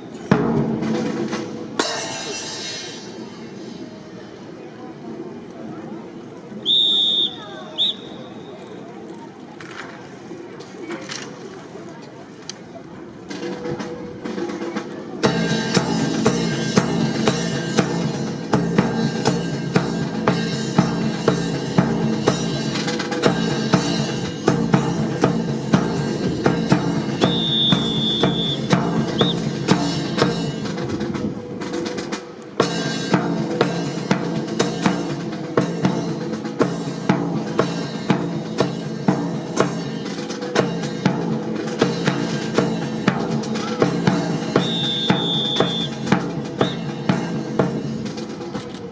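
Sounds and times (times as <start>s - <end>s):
drum-led music: 0.0s - 3.9s, 13.1s - 48.9s.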